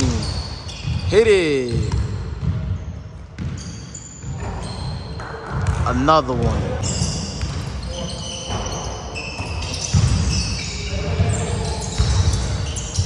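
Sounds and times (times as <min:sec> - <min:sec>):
basketball and feet thudding: 0:00.0 - 0:12.8
sneaker squeaks: 0:00.0 - 0:13.0.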